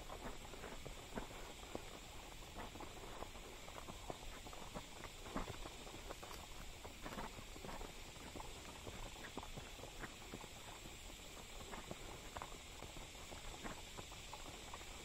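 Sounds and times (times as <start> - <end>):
faint hiss: 0.0 - 15.0
horse hooves on dirt: 0.0 - 15.0.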